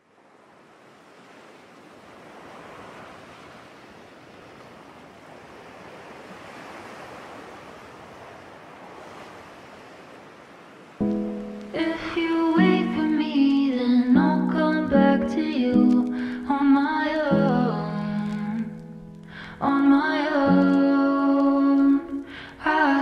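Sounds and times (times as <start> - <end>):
small waves washing on sand: 0.0 - 14.6, 15.4 - 23.0.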